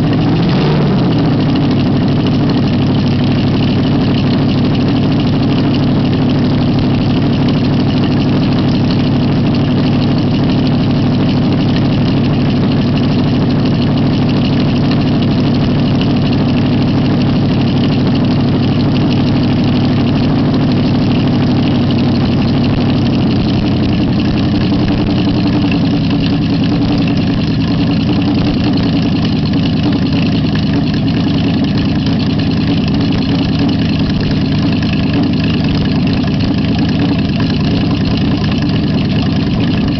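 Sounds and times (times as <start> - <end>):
race engine running steadily: 0.0 - 39.9.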